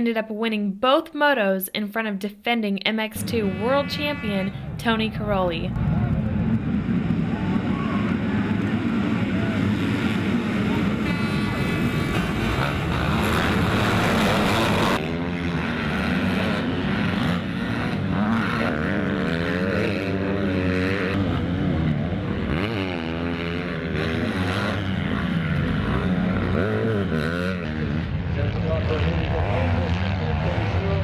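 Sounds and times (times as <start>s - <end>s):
motorcycle engines revving: 3.2s - 31.0s.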